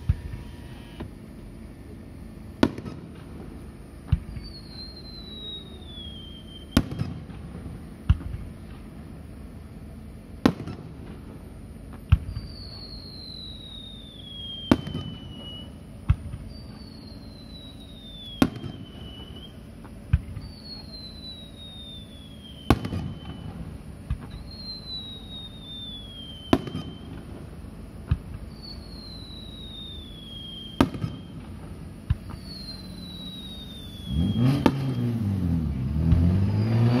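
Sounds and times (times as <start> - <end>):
falling firework whistles: 0.0 - 37.0
fireworks bangs: 2.6 - 36.6.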